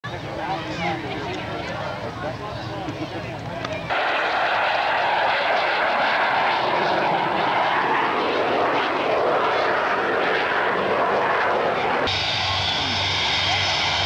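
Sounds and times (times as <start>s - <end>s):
twin radial aircraft engines running: 0.0s - 14.0s.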